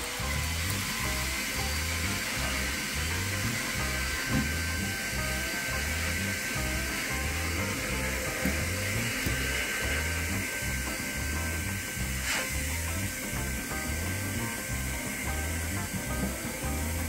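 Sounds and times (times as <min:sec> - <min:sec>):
background music with bass pattern: 0:00.0 - 0:17.0
machine whir with high whine: 0:00.0 - 0:17.0.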